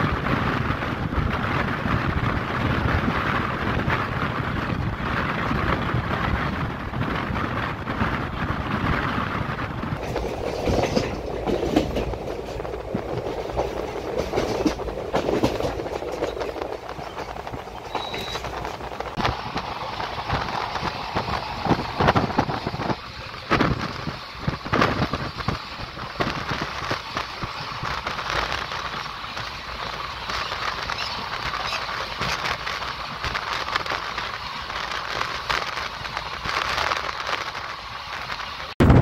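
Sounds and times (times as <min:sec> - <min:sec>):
train wheels clattering on rails: 0:00.0 - 0:39.0.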